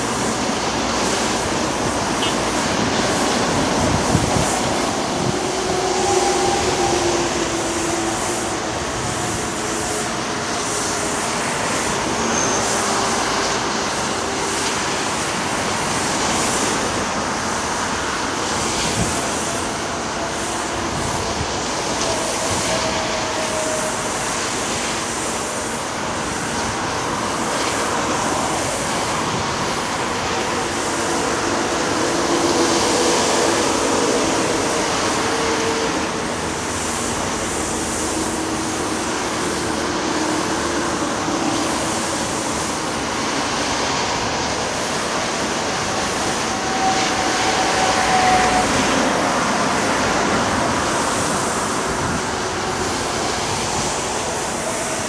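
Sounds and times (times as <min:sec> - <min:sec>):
diesel earthmoving machinery roar: 0:00.0 - 0:55.0
passing vehicles: 0:00.0 - 0:55.0.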